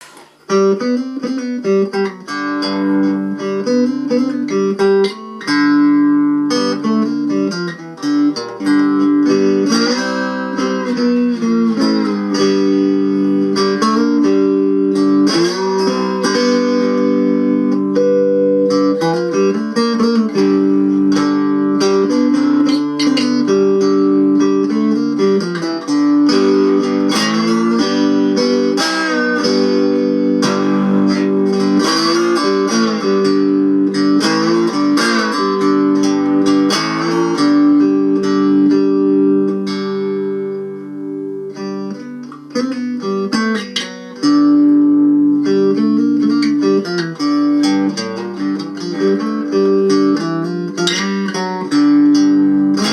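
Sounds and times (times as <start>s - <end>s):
plucked cigar box guitar melody: 0.0s - 52.9s.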